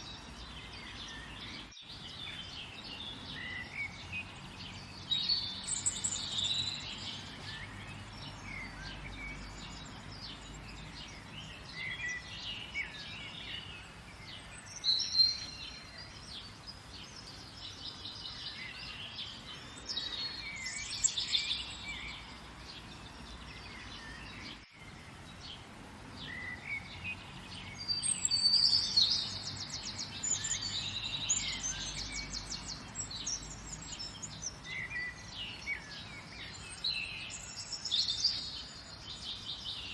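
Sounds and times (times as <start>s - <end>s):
soft background hiss: 0.0s - 39.9s
songbirds chirping and singing: 0.0s - 39.9s.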